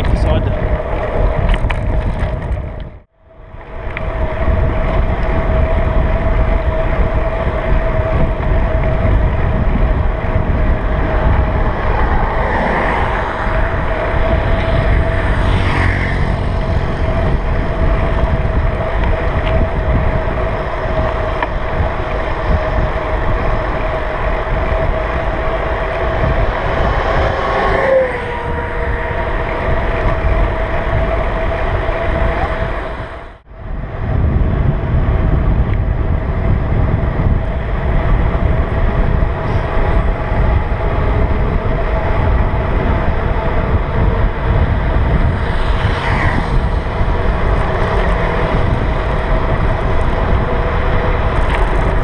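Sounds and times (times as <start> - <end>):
tyres rumbling on road: 0.0 - 52.0
wind buffeting camera: 0.0 - 52.0.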